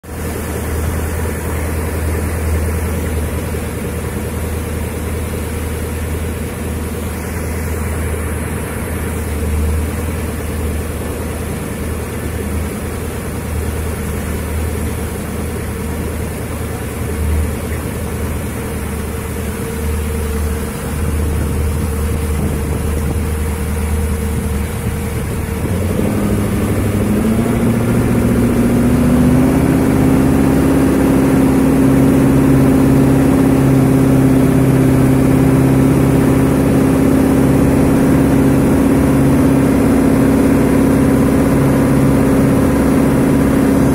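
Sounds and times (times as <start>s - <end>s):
boat engine running and revving: 0.0s - 43.9s.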